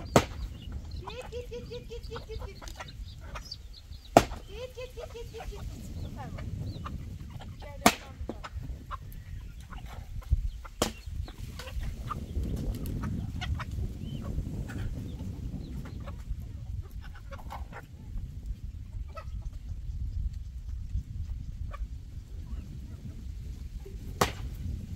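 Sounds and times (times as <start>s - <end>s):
chirping animal calls and clicks: 0.0s - 23.1s.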